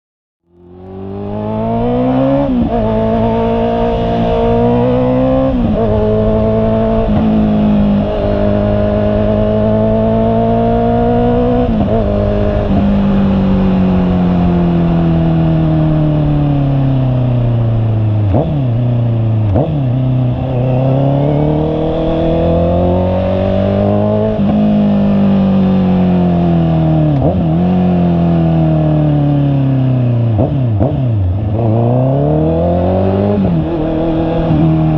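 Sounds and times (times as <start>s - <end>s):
motorcycle engine accelerating: 0.4s - 34.9s.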